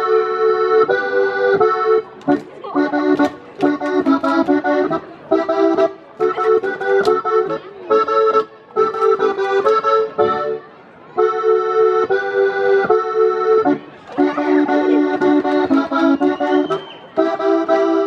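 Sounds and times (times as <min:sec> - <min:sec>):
accordion folk dance tune: 0:00.0 - 0:18.0.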